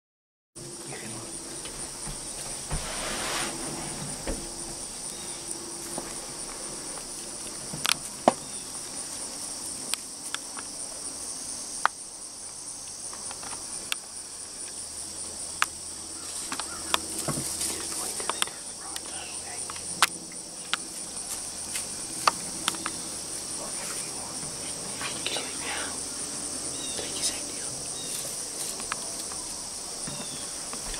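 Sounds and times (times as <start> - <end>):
high-pitched insect chorus: 0.6 - 30.9.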